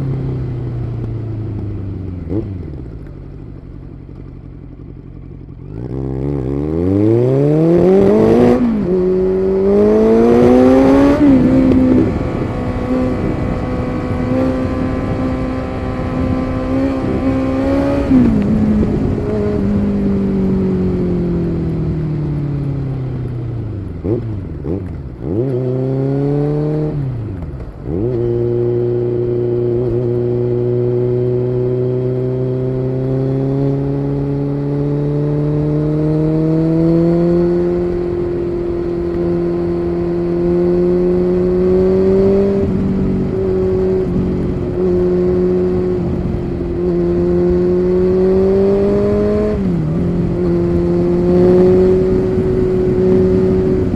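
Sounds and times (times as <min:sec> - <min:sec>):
motorcycle engine while riding: 0:00.0 - 0:53.9.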